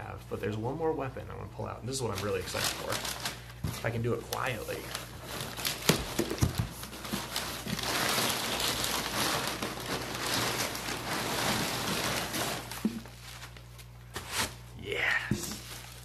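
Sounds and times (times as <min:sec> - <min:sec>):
packing paper rustling: 0:01.9 - 0:14.6, 0:15.3 - 0:16.0.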